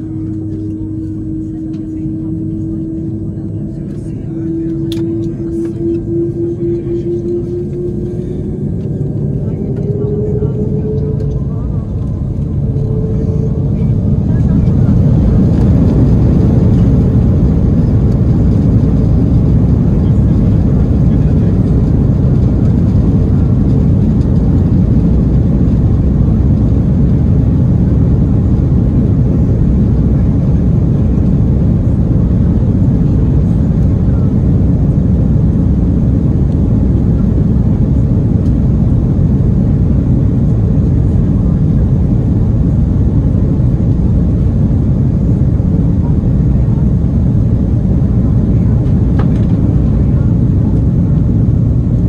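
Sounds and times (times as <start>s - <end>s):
jet engines rumbling in cabin: 0.0s - 52.0s.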